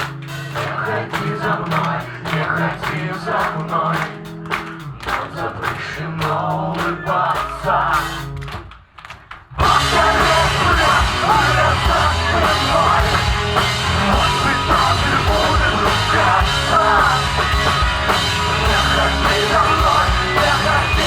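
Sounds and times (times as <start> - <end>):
drums keeping a steady beat: 0.0 - 8.5, 9.6 - 21.0
guitar: 0.0 - 8.7, 9.5 - 21.0
bass: 0.0 - 8.8, 9.5 - 21.0.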